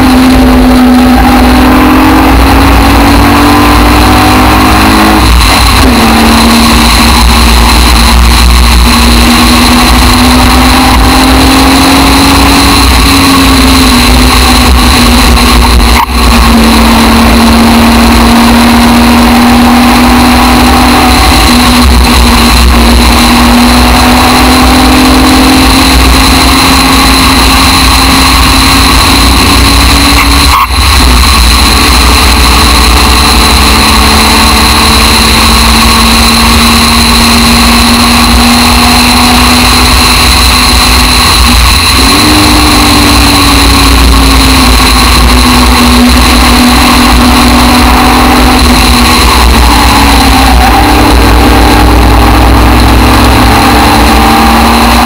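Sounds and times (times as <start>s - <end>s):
racing car engine pulling hard: 0.0s - 55.0s.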